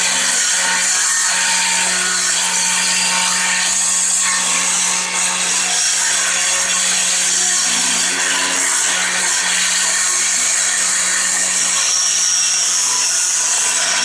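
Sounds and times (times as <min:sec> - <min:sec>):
power tool cutting: 0:00.0 - 0:14.0.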